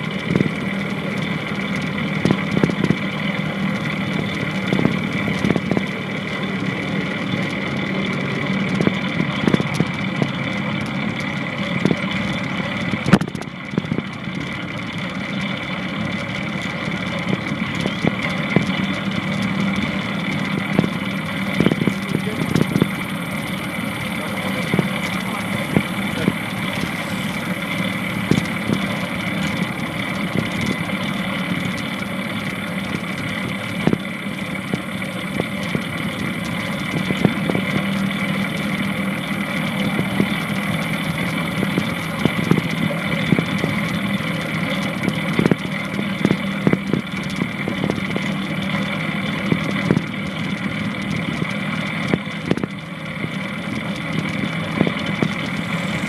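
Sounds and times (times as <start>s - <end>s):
wheels rolling on pavement: 0.0s - 56.0s.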